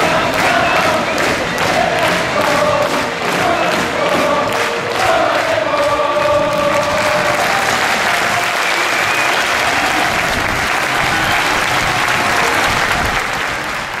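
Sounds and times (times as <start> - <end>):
crowd clapping: 0.0 - 14.0.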